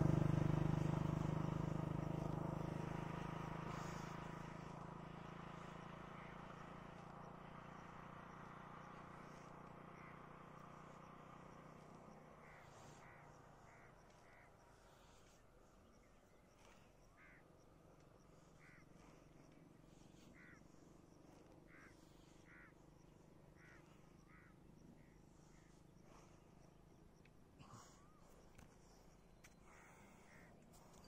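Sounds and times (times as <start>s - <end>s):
faint bird calls: 2.9s - 4.8s, 5.6s - 31.0s.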